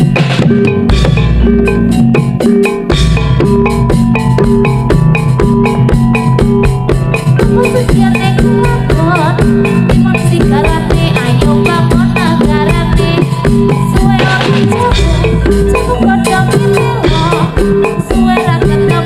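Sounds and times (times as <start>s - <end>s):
amplified gamelan music: 0.0s - 19.0s.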